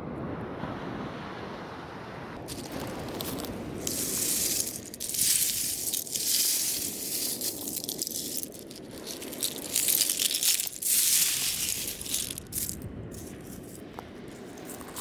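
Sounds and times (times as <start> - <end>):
seashells rattling and crunching: 2.4 - 15.0.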